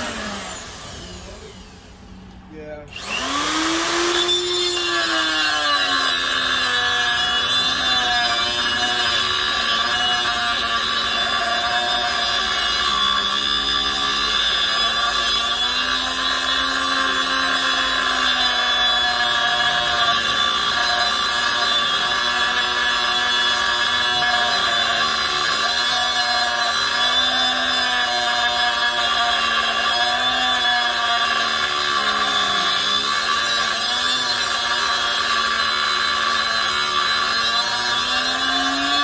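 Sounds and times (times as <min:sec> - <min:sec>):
cut-off tool grinding steel bolt: 0:02.9 - 0:39.0.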